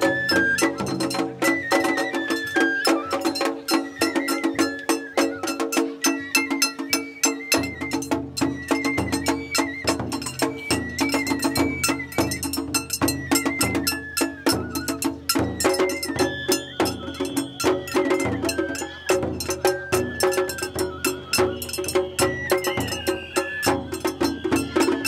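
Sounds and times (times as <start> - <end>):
bamboo flute melody: 0.0 - 25.0
small drums beaten fast: 0.0 - 25.0.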